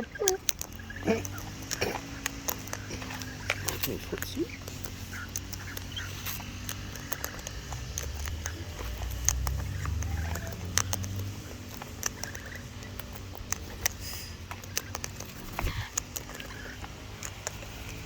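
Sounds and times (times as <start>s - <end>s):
birds pecking and scratching: 0.0s - 18.0s
garden machinery drone: 0.0s - 18.0s.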